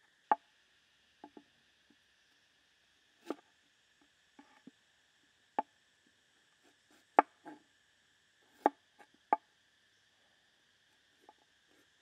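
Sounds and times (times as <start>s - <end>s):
high-pitched background hiss: 0.0s - 12.0s.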